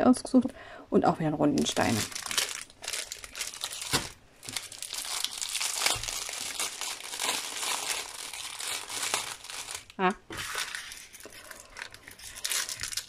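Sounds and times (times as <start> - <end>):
plastic packaging crinkling: 1.6 - 13.0.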